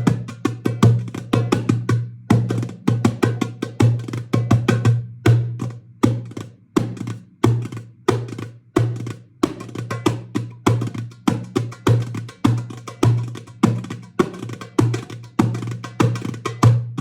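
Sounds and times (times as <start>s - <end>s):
hand drum slaps: 0.0s - 17.0s.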